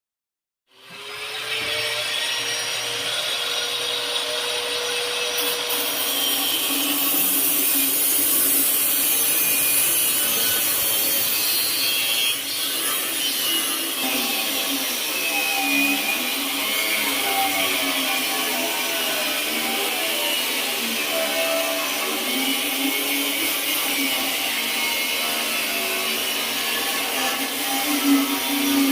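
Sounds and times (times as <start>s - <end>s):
angle grinder running: 0.7s - 28.9s.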